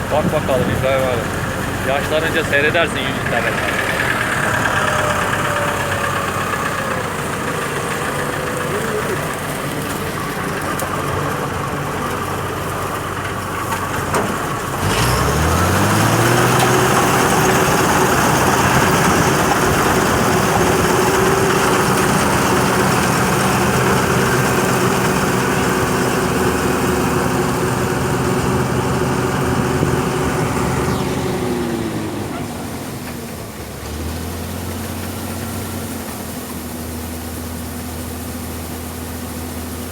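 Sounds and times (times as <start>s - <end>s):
combine harvester engine revving: 0.0s - 39.9s.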